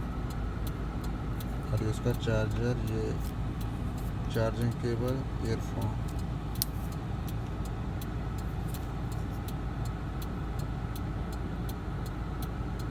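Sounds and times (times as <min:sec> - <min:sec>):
faint ticks: 0:00.0 - 0:12.9
low rumbling hum: 0:00.0 - 0:12.9.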